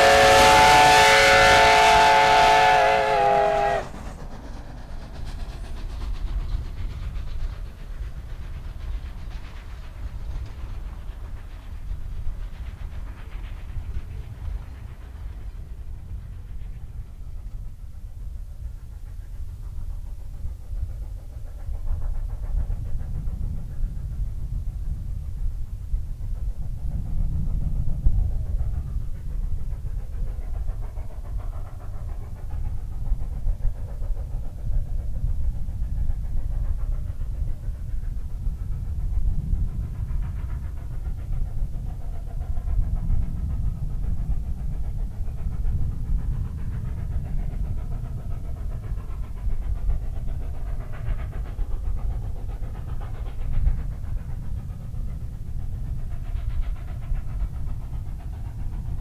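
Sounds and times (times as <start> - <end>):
steam locomotive exhaust chuffing: 0.0 - 59.0.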